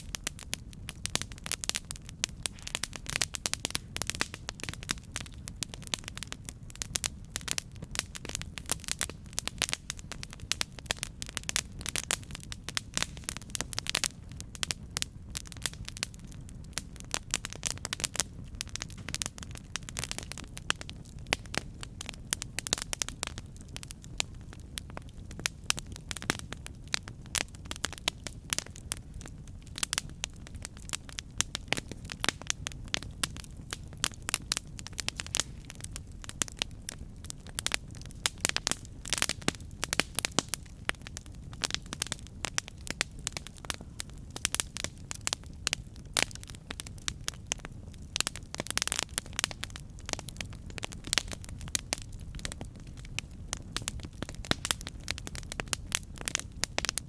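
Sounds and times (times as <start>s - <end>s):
campfire crackling and popping: 0.0s - 57.0s
low rumble of flame: 0.0s - 57.0s.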